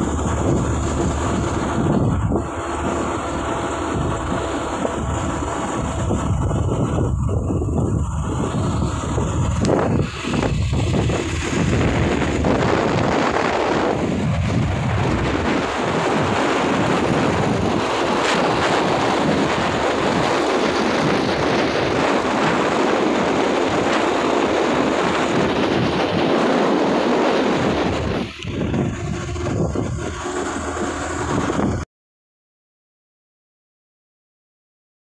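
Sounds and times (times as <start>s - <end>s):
wind buffeting microphone: 0.0s - 31.8s
motorcycle road and engine noise: 0.0s - 31.9s.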